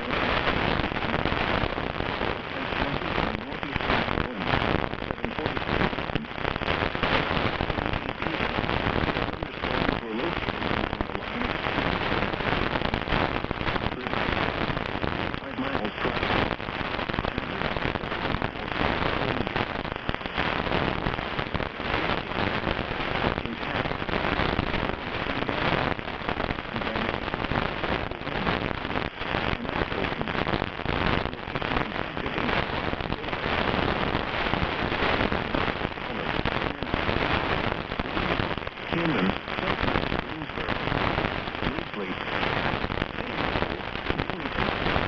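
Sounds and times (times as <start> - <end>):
dense crackling noise: 0.0 - 45.0.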